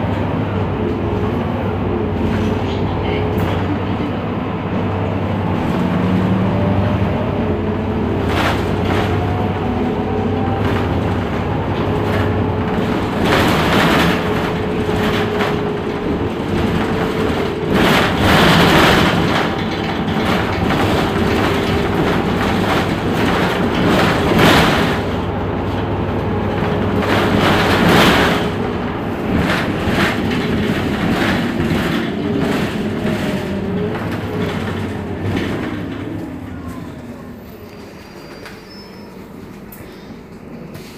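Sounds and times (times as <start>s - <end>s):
bus engine drone with whine: 0.0s - 40.9s.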